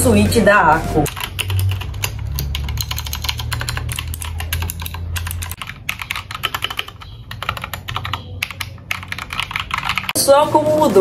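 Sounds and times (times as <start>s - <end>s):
mechanical keyboard typing: 0.0s - 10.2s.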